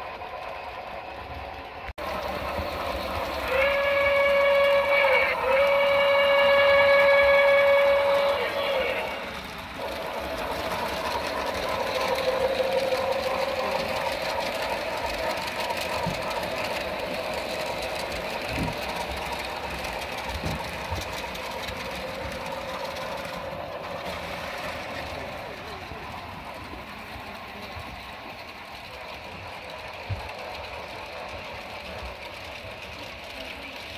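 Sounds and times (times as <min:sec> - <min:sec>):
model train rolling on rails: 0:00.0 - 0:33.9.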